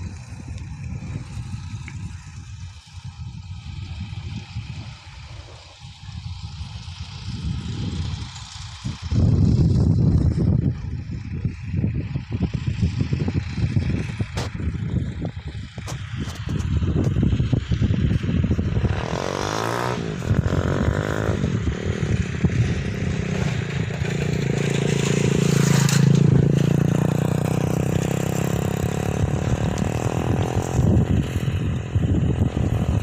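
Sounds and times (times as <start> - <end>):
vehicle engine running: 0.0 - 33.0
wind buffeting microphone: 0.0 - 33.0.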